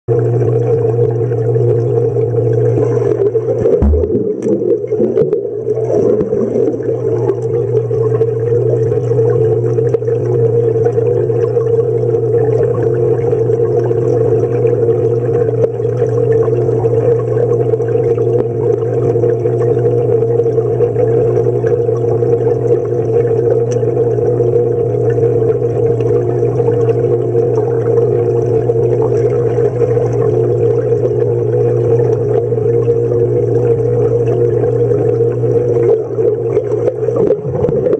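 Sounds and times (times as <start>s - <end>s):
underwater pool hum: 0.1s - 37.9s
water noise underwater: 0.1s - 37.9s.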